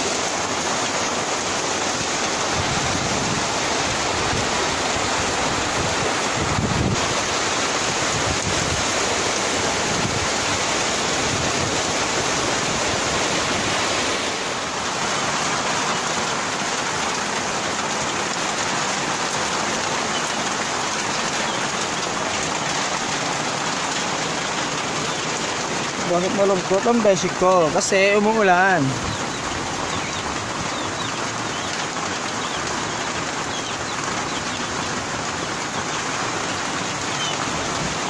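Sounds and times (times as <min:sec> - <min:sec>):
rain on a metal roof: 0:00.0 - 0:38.0.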